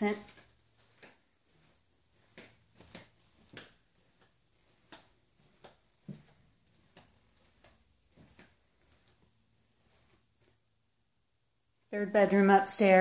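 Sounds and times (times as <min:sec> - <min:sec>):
footsteps on hard floor: 0:00.0 - 0:10.6
faint high-pitched whine: 0:00.0 - 0:13.0.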